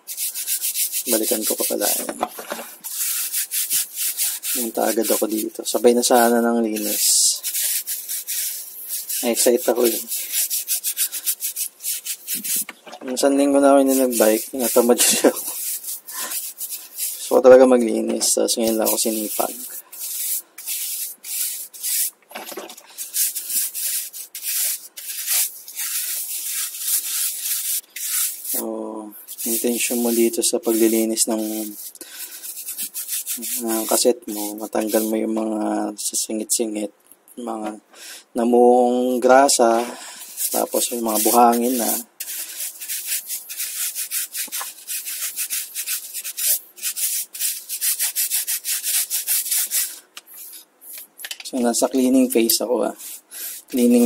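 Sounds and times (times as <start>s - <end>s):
brush scrubbing bicycle sprockets: 0.0s - 35.4s, 39.7s - 51.1s, 51.7s - 54.0s.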